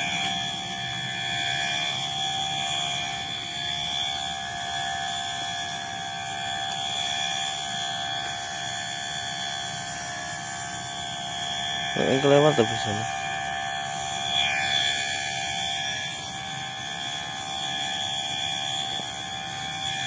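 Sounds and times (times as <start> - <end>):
night insects chorus: 0.0 - 9.0, 9.6 - 20.0.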